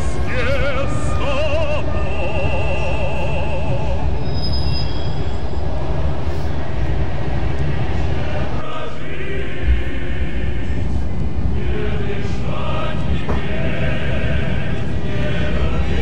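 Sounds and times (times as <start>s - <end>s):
train carriage rumble: 0.0s - 16.0s.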